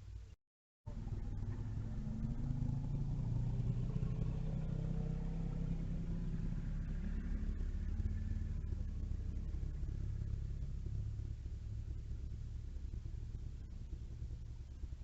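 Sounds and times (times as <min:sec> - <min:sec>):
vehicle engine droning: 0:00.9 - 0:15.0.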